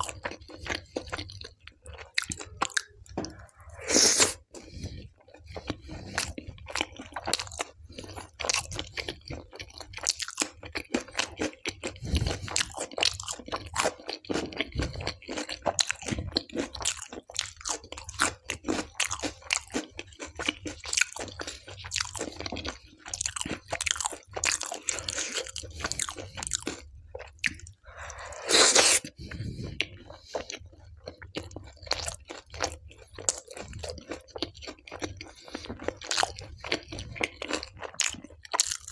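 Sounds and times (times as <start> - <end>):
chewing and crunching bread: 0.0 - 38.9.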